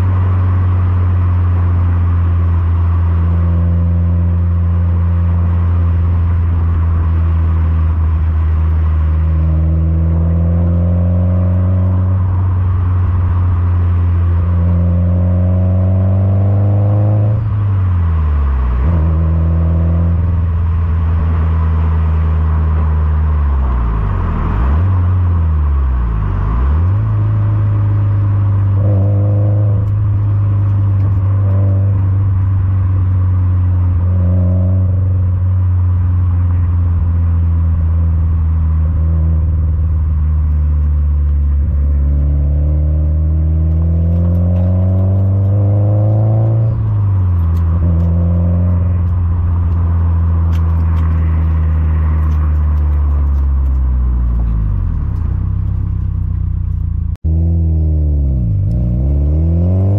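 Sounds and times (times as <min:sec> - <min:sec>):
car exhaust note: 0:00.0 - 0:59.9.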